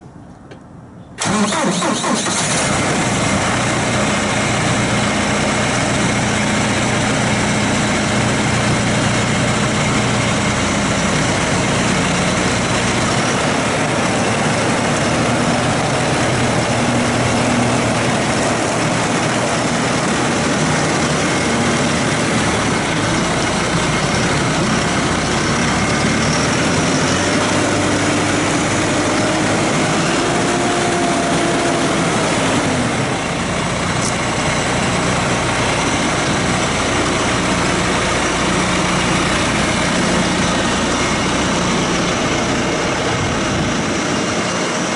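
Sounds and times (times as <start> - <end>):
tractor diesel engine idling: 1.2 - 44.9.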